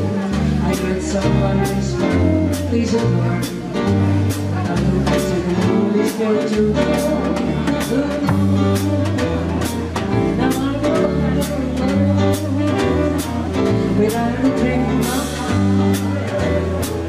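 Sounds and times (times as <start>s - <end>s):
woman singing: 0.0s - 3.8s, 4.5s - 17.0s
drum kit with cymbals: 0.0s - 17.0s
upright double bass: 0.0s - 17.0s.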